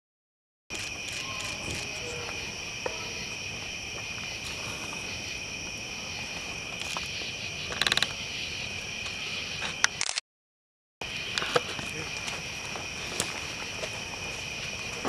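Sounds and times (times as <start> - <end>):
crickets trilling: 0.7 - 10.0, 11.0 - 15.0.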